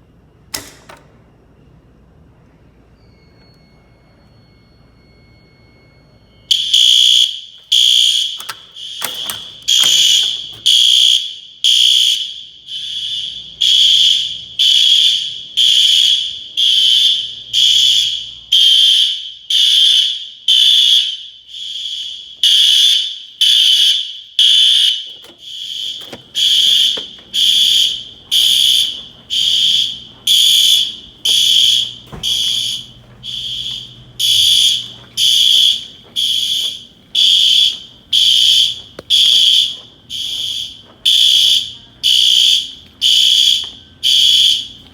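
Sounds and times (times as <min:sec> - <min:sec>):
fire alarm pulsing tone: 0:02.9 - 0:44.9.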